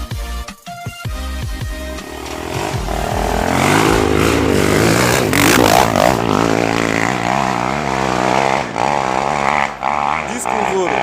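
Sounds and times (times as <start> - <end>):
dirt bike engine accelerating: 1.6 - 11.0.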